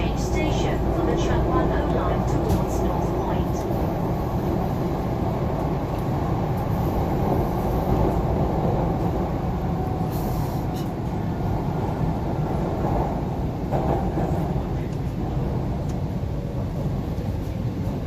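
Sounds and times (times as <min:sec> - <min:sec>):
train rumbling in motion: 0:00.0 - 0:18.0.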